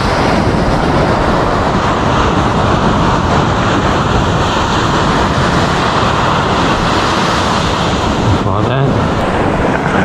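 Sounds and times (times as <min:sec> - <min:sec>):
ocean surf breaking: 0:00.0 - 0:10.0
wind on microphone: 0:00.0 - 0:10.0.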